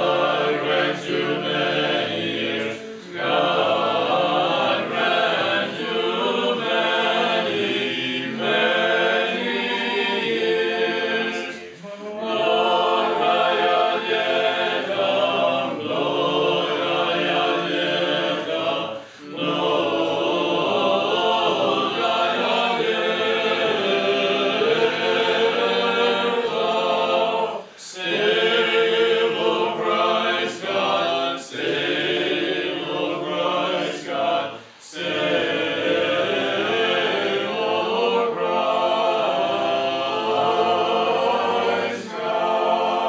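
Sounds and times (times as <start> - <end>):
choir singing a hymn a cappella: 0.0 - 43.0.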